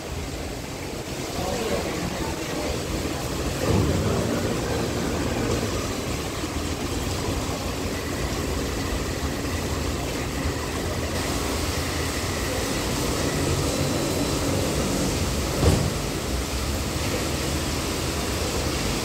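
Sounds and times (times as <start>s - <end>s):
metro train hum and hiss: 0.0s - 8.8s, 10.0s - 19.0s
station background noise: 0.0s - 19.0s.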